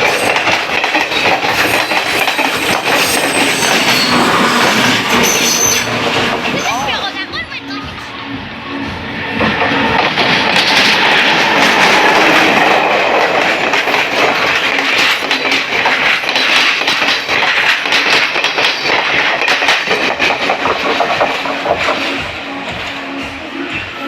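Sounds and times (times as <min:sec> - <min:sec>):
train wheels clattering: 0:00.0 - 0:08.0, 0:08.7 - 0:24.0.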